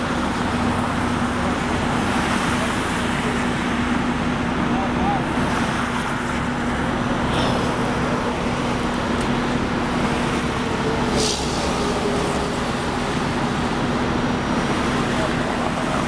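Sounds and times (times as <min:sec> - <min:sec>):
highway traffic rushing by: 0:00.0 - 0:16.0.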